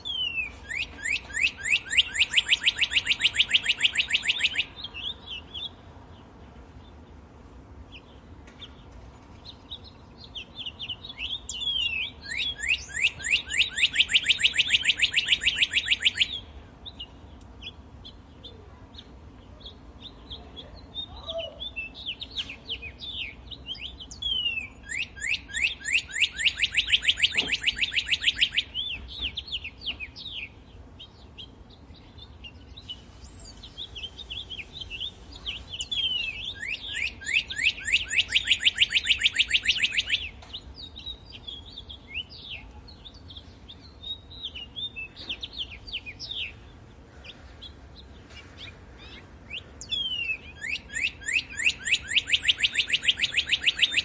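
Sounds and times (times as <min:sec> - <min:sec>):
songbird trilling: 0:00.0 - 0:07.0, 0:07.9 - 0:54.0.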